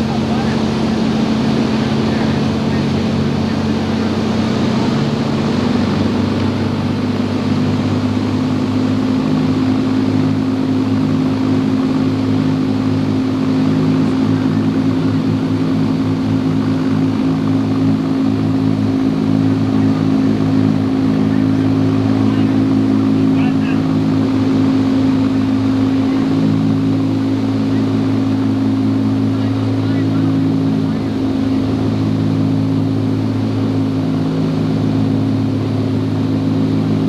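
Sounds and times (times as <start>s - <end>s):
propeller engine drone in cabin: 0.0s - 37.0s.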